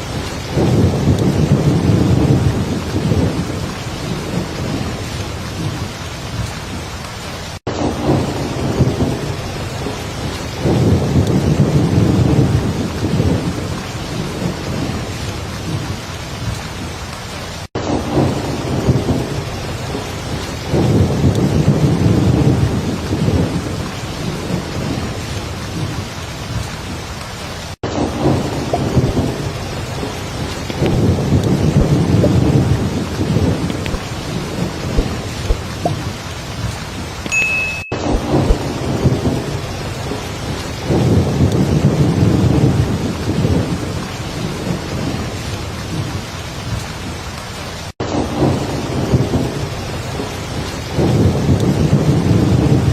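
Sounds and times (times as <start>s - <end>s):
rolling thunder: 0.0s - 16.9s, 17.7s - 27.0s, 27.8s - 37.1s, 38.0s - 47.1s, 48.0s - 52.9s
heavy rain: 0.0s - 52.9s.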